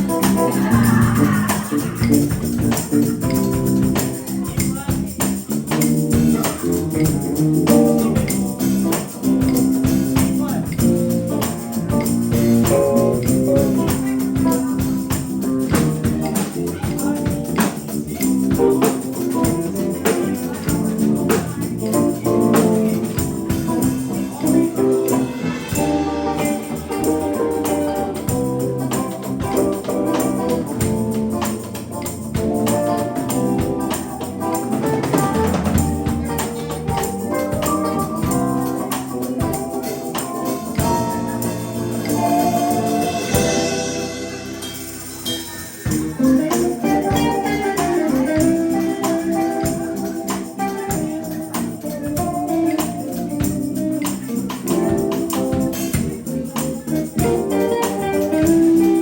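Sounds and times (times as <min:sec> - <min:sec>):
steady drum beat: 0:00.0 - 0:59.0
sustained keyboard chords: 0:00.0 - 0:59.0.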